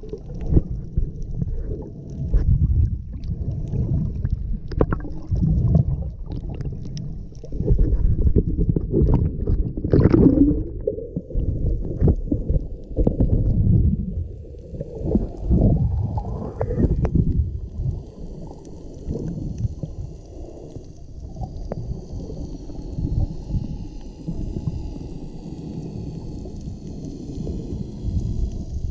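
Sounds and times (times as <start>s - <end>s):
muffled underwater rumble: 0.0s - 28.9s
water gurgles: 0.0s - 28.9s.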